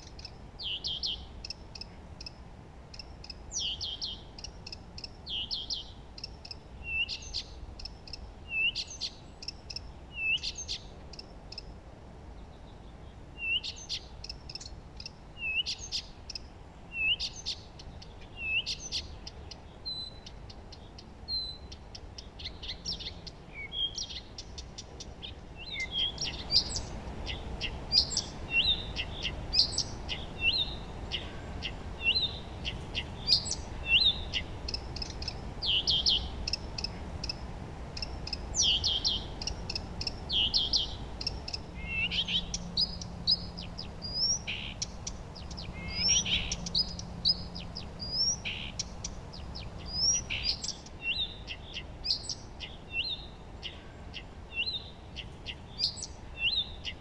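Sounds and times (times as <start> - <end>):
faint low rumble: 0.0 - 51.9
songbirds singing and chirping: 0.0 - 57.0.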